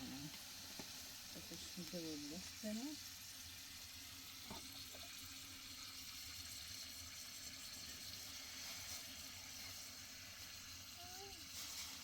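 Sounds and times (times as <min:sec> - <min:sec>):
food frying sizzle: 0:00.0 - 0:12.0.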